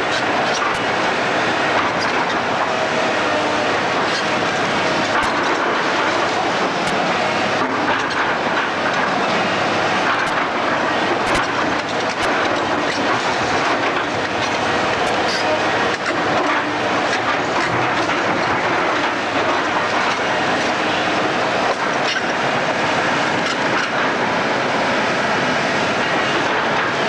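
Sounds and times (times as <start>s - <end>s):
demolition machinery rumbling: 0.0s - 27.0s.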